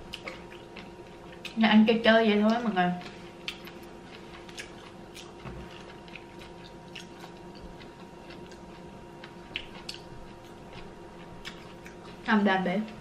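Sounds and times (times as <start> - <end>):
people chewing: 0.0 - 1.6, 2.5 - 12.3
faint hum: 0.0 - 13.0.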